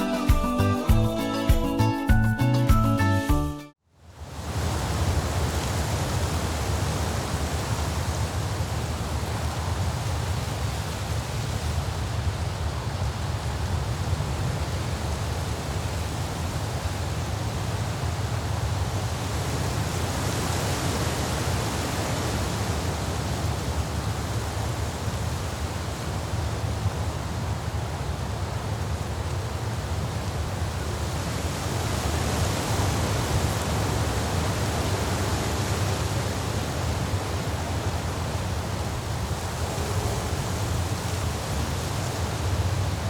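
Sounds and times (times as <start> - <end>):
steady rushing noise: 4.2 - 43.0.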